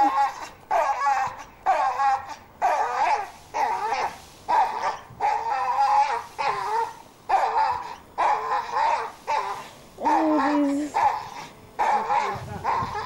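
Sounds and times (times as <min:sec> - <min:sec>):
dog whining barks: 0:00.0 - 0:13.0.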